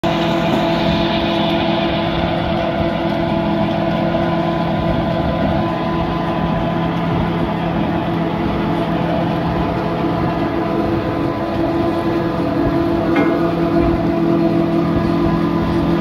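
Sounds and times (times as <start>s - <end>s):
rotary tiller churning soil: 0.0s - 16.0s
tractor engine running under load: 0.0s - 16.0s.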